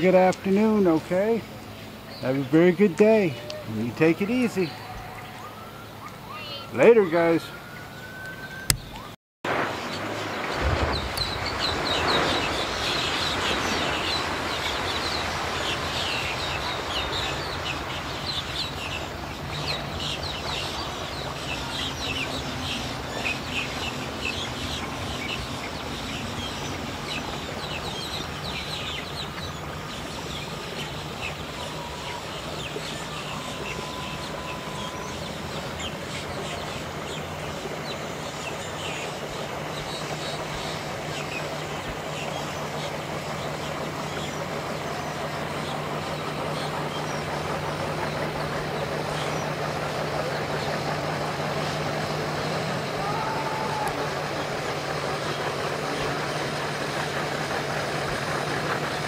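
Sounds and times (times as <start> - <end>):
birds chirping: 0.0 - 59.0
outboard motor humming: 0.0 - 59.0.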